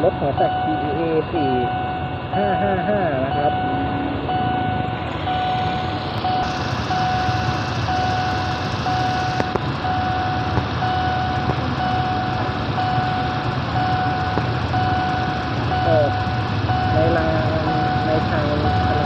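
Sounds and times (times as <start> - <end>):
engine rumble: 0.0 - 19.0
level crossing warning alarm: 0.0 - 19.0.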